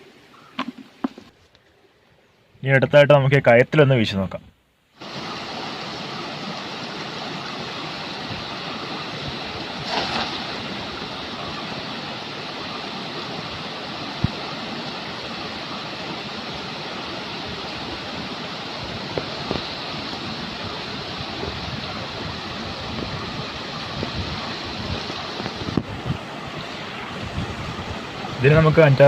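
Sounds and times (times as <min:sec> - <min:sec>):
stream water rushing: 0:05.0 - 0:29.0.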